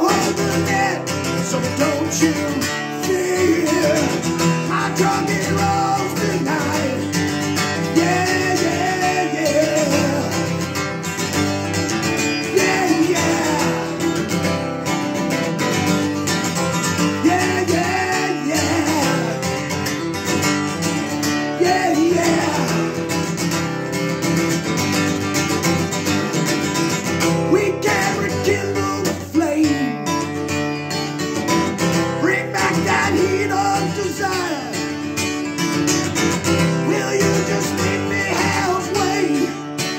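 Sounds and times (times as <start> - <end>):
country song with strummed guitar: 0.0 - 39.9.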